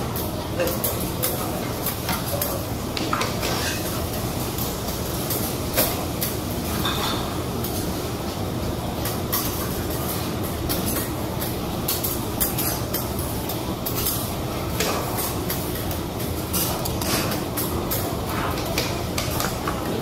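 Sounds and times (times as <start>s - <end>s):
steel spatulas clattering on griddle: 0.6s - 7.8s, 9.0s - 20.0s.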